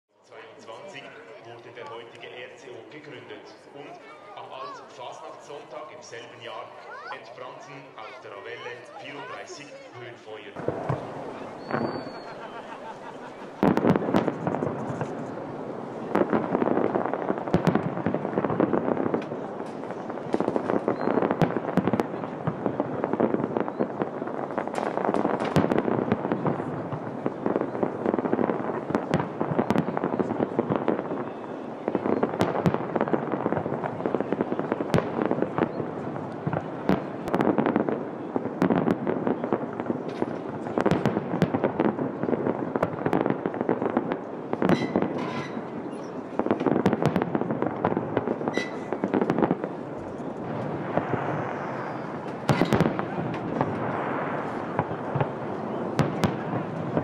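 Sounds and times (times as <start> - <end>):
fireworks bangs and crackling: 0.3 - 57.0.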